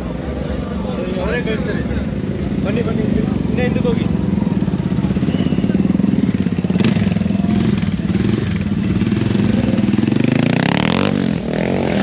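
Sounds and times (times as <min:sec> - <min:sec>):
motorcycle engine revving: 0:01.9 - 0:12.0.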